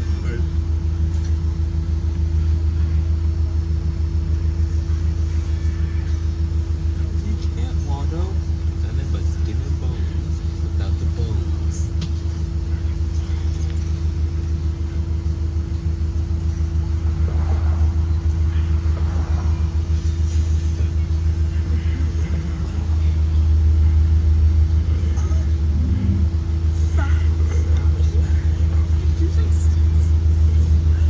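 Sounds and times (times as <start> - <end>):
bus engine drone: 0.0 - 31.0
constant hum: 0.0 - 31.0.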